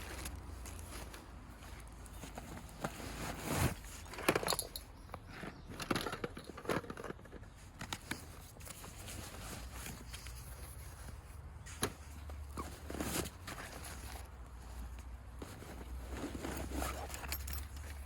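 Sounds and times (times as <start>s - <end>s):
rustling and light knocks: 0.0s - 18.0s.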